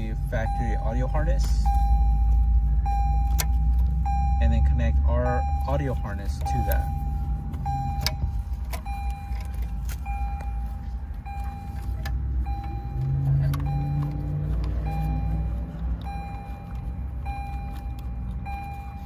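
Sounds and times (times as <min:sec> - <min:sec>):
electronic warning chime: 0:00.0 - 0:19.0.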